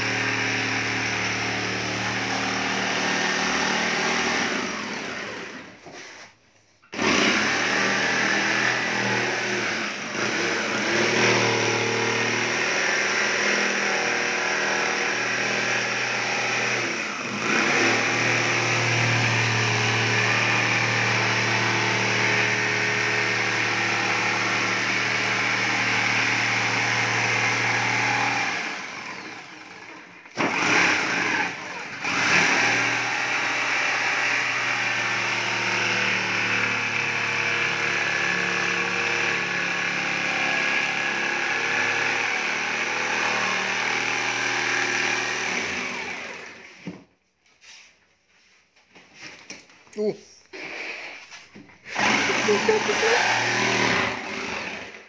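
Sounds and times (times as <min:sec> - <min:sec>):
electric jigsaw cutting plywood: 0:00.0 - 0:06.2, 0:06.9 - 0:47.1, 0:50.5 - 0:51.2, 0:51.8 - 0:55.0.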